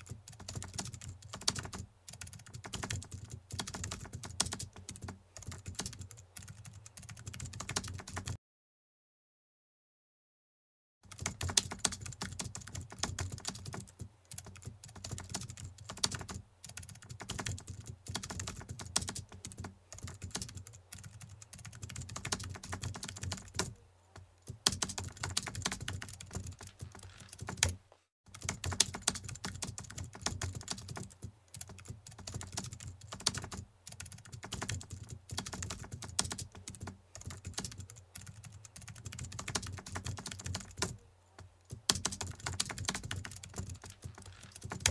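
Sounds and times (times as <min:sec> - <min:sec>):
computer keyboard typing: 0:00.0 - 0:08.4, 0:11.1 - 0:23.8, 0:24.4 - 0:44.9.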